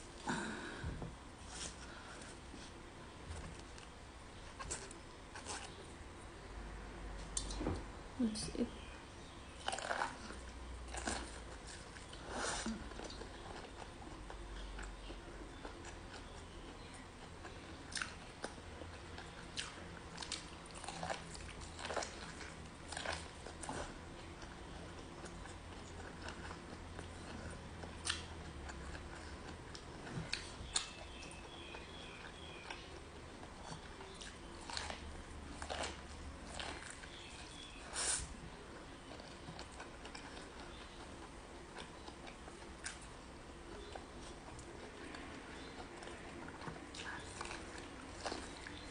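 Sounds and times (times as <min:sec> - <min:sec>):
quiet chewing: 0:00.0 - 0:06.0, 0:08.5 - 0:48.9
low steady hum: 0:00.0 - 0:48.9.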